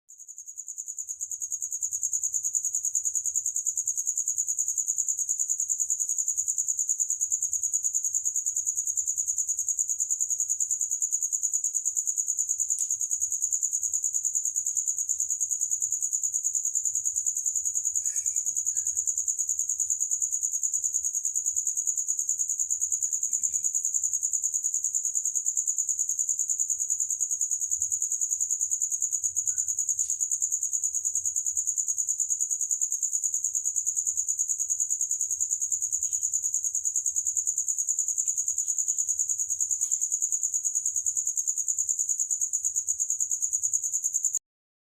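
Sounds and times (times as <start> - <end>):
cricket chirping: 0.1 - 44.4.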